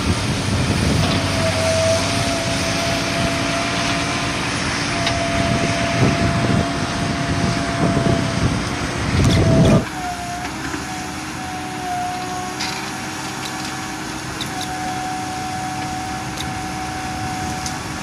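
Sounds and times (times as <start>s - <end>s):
heavy diesel machinery running: 0.0s - 18.0s
steady whine: 0.0s - 18.0s
truck diesel engine rumbling: 0.0s - 18.0s.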